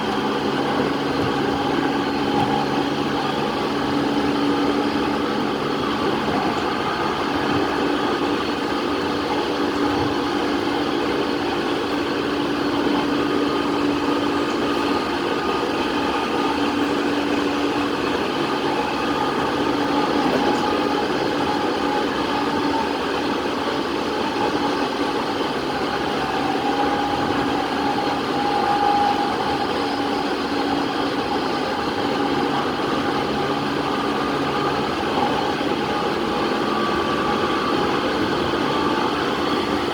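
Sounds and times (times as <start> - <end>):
electric train running: 0.0 - 39.9.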